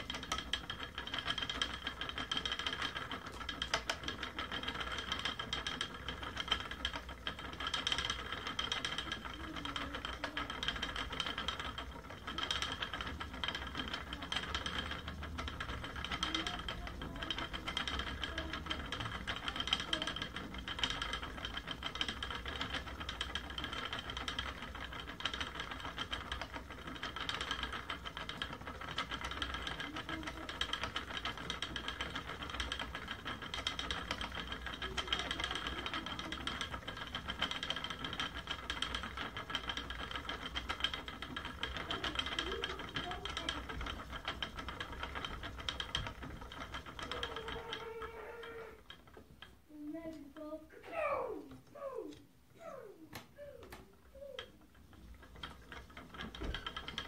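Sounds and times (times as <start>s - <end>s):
small clicks and knocks: 0.0s - 57.0s
spinning wheel whirring: 0.0s - 57.0s.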